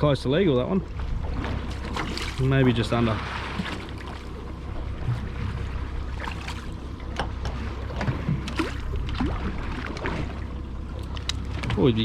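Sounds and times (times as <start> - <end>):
boat engine low rumble: 0.0 - 12.0
water noise: 0.0 - 12.0
wind: 0.0 - 12.0.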